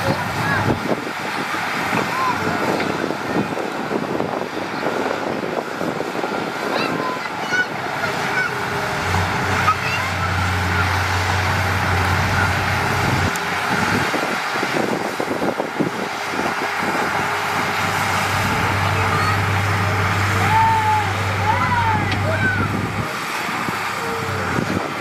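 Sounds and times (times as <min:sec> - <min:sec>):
diesel engine of heavy machinery: 0:00.0 - 0:25.0.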